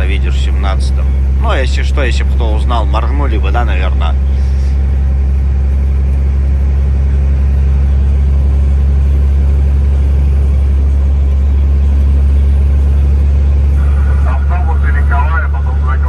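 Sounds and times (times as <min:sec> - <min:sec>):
diesel truck engine drone: 0:00.0 - 0:16.0
road noise: 0:00.0 - 0:16.0.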